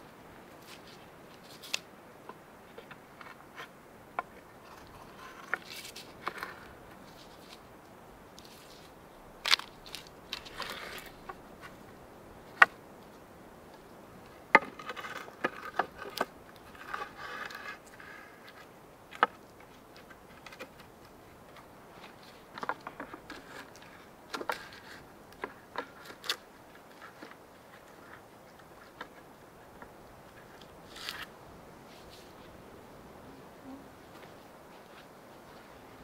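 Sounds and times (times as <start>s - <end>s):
wooden poles knocking and scraping: 0.7s - 7.7s, 8.4s - 12.8s, 13.7s - 31.3s.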